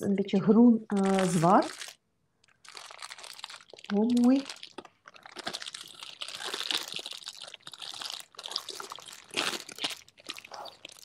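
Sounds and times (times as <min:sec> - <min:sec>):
plastic bags crinkling: 0:00.9 - 0:11.0.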